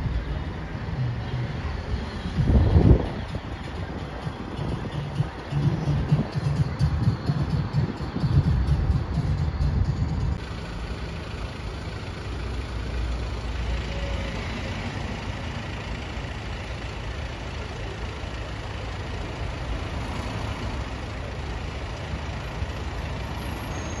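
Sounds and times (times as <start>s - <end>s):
diesel engine idling: 0.0s - 24.0s
street background noise: 0.0s - 24.0s.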